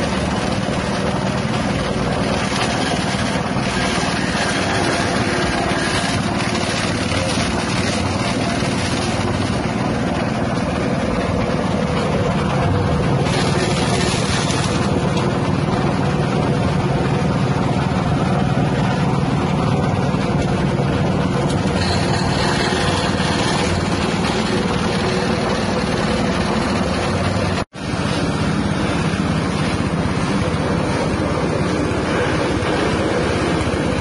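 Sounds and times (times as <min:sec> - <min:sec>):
blades shredding grass: 0:00.0 - 0:34.0
petrol engine grass chopper running: 0:00.0 - 0:34.0.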